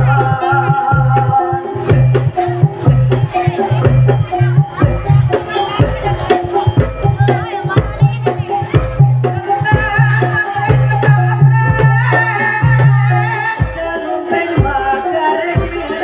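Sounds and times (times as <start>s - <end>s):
hand drums playing busy rhythm: 0.0s - 16.0s
wavering high melody: 0.0s - 16.0s.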